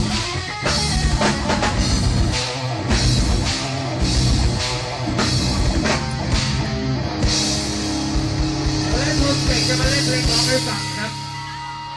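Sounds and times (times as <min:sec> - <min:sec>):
rock music with drums and guitar: 0:00.0 - 0:11.9.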